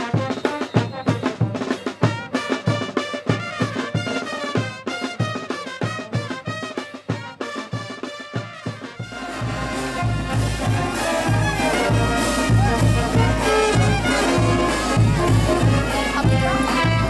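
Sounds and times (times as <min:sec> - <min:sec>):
latin band music with brass: 0:00.0 - 0:17.0.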